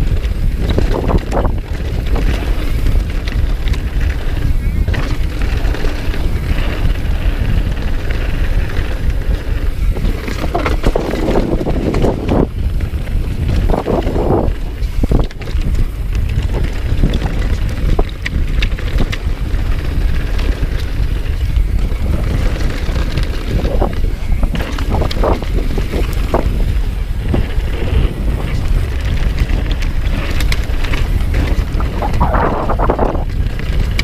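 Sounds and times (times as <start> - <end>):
bike clicks and rattles: 0.0 - 34.0
tyre rumble on gravel: 0.0 - 34.0
wind buffeting the microphone: 0.0 - 34.0.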